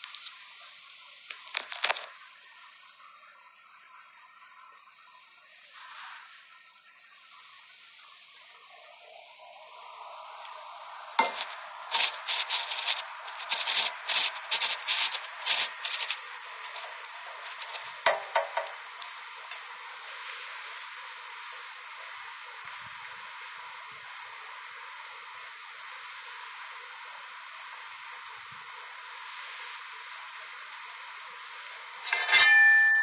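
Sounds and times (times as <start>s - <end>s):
room hiss: 0.0s - 33.0s.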